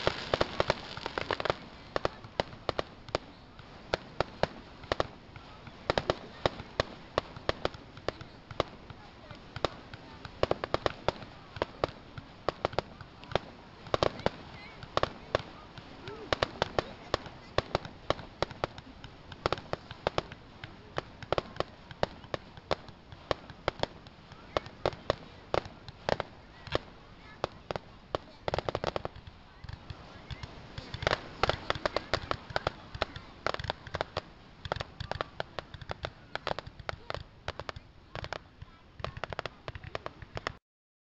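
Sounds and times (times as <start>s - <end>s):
fireworks bangs and crackles: 0.0s - 40.6s.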